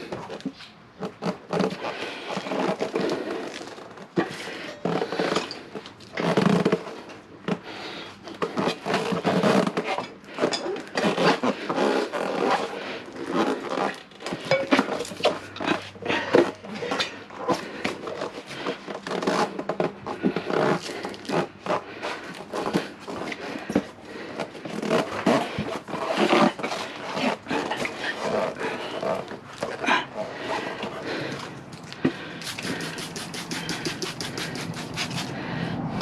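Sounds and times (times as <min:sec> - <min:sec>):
rubber scraping metal rim: 0:00.0 - 0:35.5.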